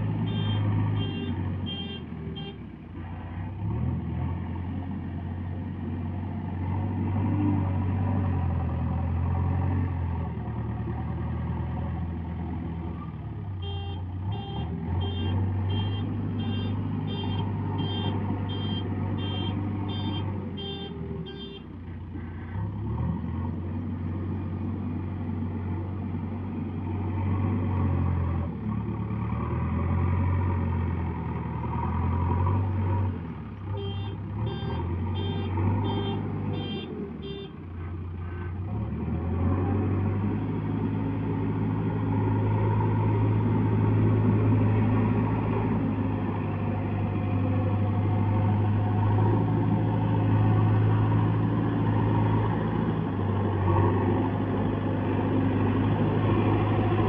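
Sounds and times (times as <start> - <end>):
backhoe diesel engine working: 0.0 - 57.0.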